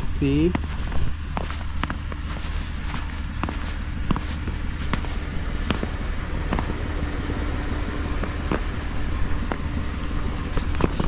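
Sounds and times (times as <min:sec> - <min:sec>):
footsteps crunching in snow: 0:00.0 - 0:07.2, 0:08.1 - 0:11.0
steady low rumble: 0:00.0 - 0:11.0.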